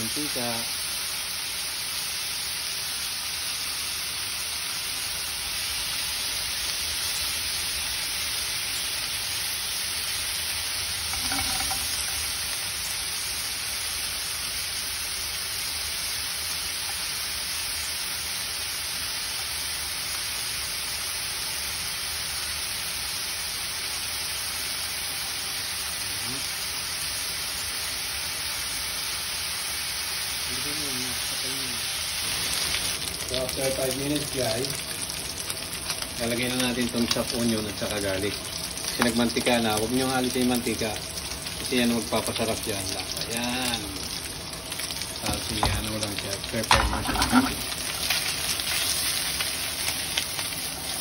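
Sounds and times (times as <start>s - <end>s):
pork sizzling in a pan: 0.0s - 51.0s.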